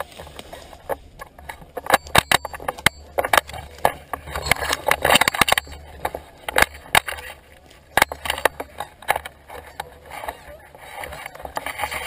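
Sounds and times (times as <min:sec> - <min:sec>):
grass and brush rustling: 0:00.0 - 0:12.0.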